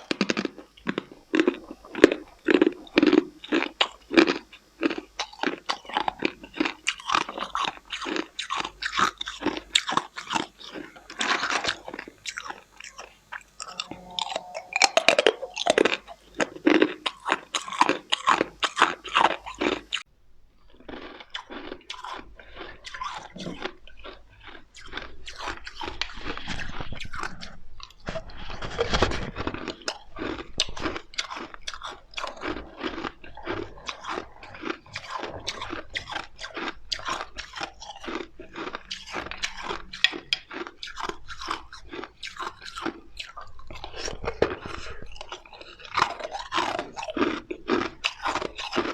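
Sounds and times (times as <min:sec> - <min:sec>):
ice being chewed: 0:00.0 - 0:14.5, 0:15.4 - 0:48.9.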